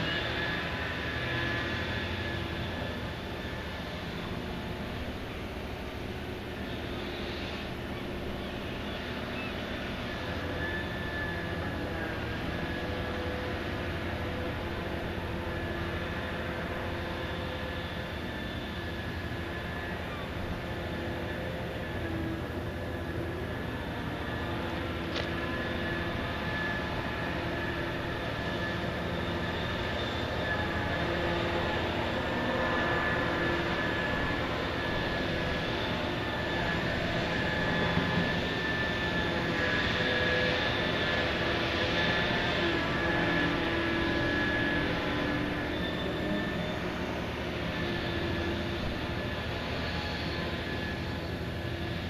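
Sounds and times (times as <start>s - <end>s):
heavy diesel machinery drone: 0.0s - 52.0s.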